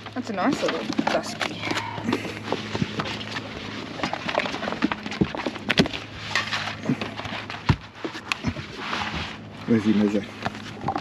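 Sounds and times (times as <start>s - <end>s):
fishing gear knocks and scrapes: 0.3s - 11.0s.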